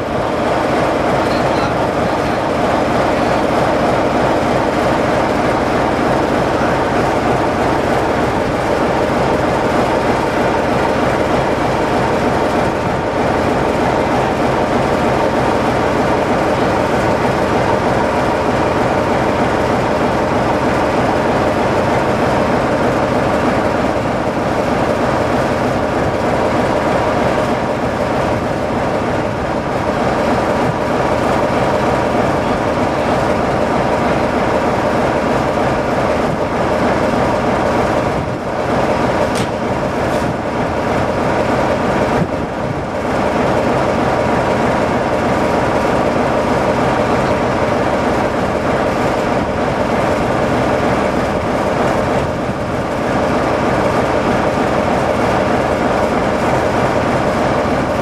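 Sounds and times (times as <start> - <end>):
diesel locomotive engine running: 0.0 - 58.0.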